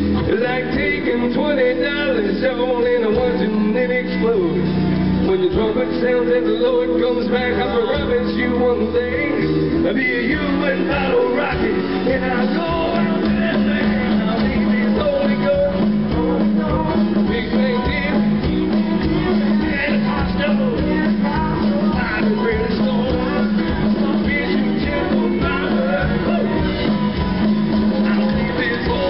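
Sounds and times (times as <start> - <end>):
live country band playing: 0.0 - 29.0.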